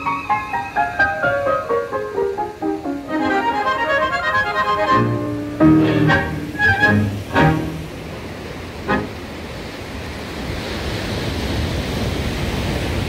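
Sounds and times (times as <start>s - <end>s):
sea surf washing: 0.0s - 13.0s.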